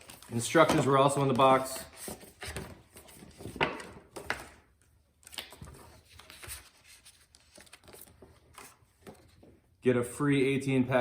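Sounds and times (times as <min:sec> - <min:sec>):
paper rustling: 0:00.0 - 0:04.6, 0:05.2 - 0:09.5.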